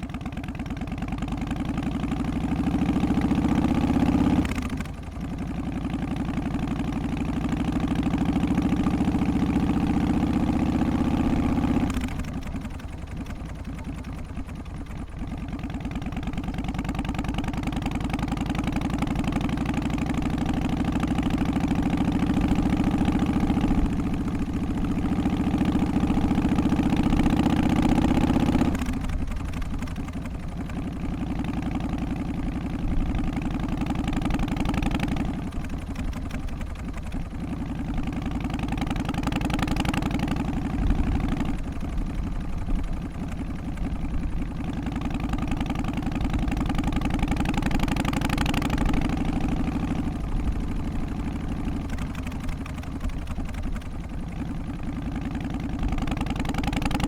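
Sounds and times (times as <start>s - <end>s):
v-twin motorcycle engine revving: 0.0s - 57.0s.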